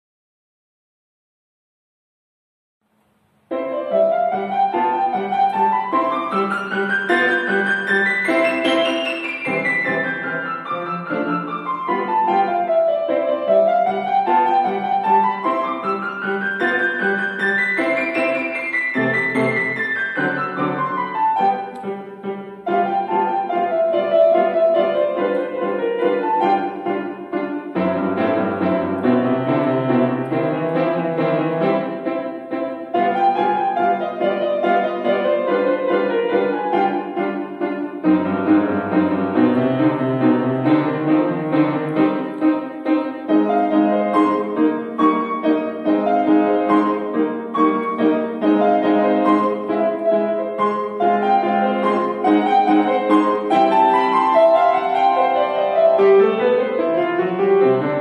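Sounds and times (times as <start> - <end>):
solo grand piano classical piece: 2.8 - 58.0.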